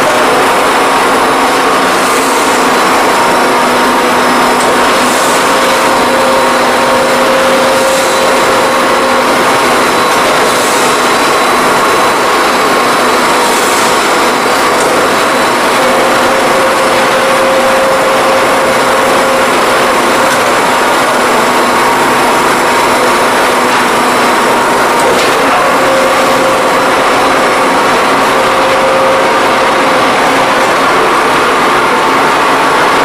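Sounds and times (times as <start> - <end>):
machine running noise: 0.0 - 33.0.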